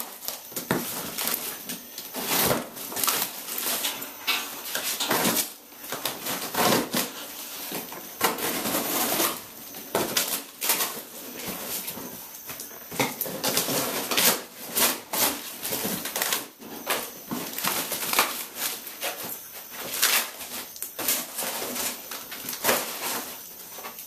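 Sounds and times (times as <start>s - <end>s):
plastic crinkling: 0.0s - 24.0s.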